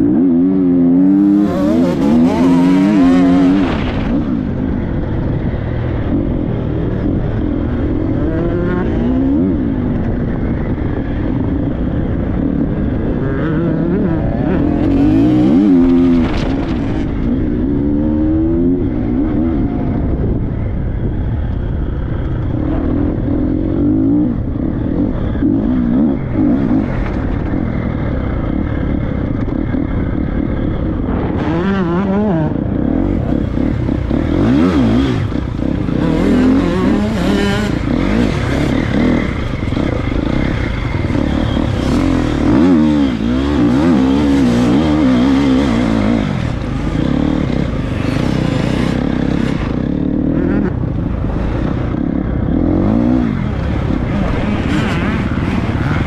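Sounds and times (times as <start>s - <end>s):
motorbike engine revving: 0.0s - 20.4s, 22.0s - 56.0s.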